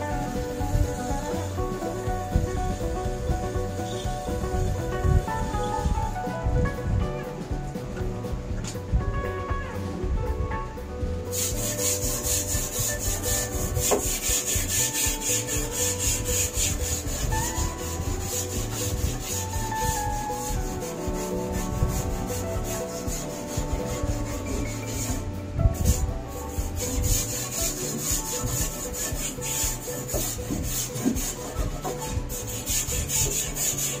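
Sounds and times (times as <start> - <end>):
brush scrubbing sheet metal: 0.0 - 6.2, 11.2 - 34.0.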